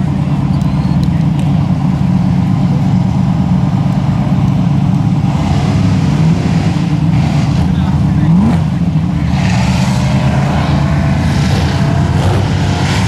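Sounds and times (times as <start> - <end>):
truck engine running loud: 0.0 - 13.0.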